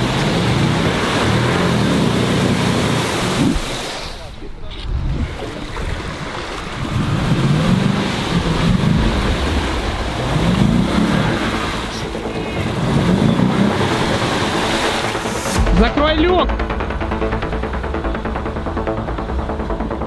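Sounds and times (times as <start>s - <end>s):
engine revving: 0.0s - 20.0s
water sloshing: 0.0s - 20.0s.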